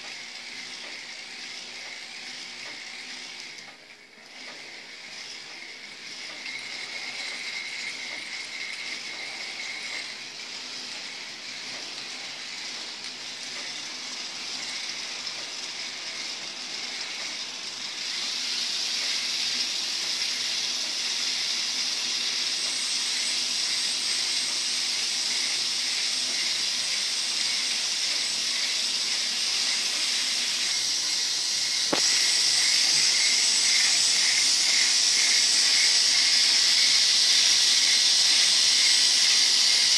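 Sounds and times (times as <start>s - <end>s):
toy motors and plastic gears whirring: 0.0s - 39.9s.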